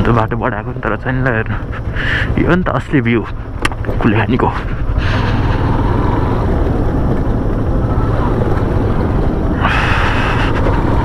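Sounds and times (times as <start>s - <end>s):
vehicle rumbling along road: 0.0s - 11.0s
wind and road noise: 0.0s - 11.0s.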